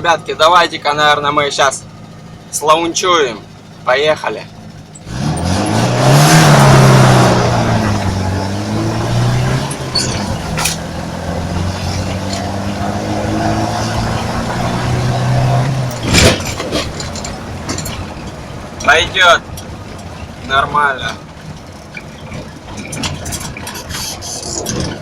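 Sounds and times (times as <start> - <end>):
car engine revving: 1.5 - 25.0.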